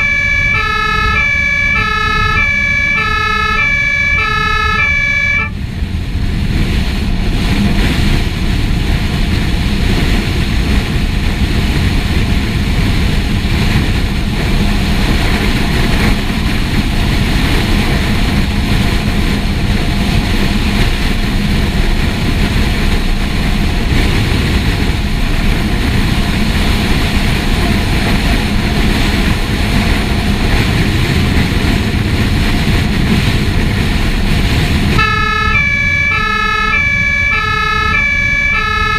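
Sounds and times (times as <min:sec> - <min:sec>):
fire engine diesel engine drone: 0:00.0 - 0:38.9.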